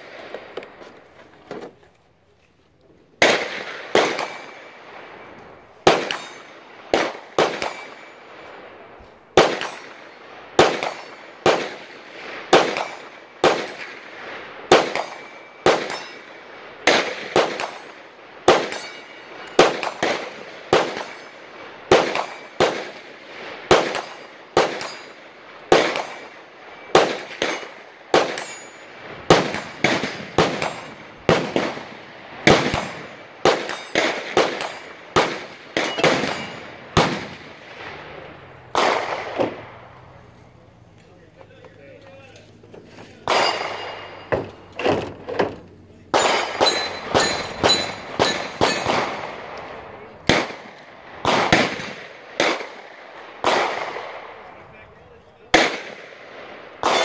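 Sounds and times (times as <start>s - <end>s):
gunshots with ringing tail: 3.2s - 41.4s, 43.2s - 57.0s.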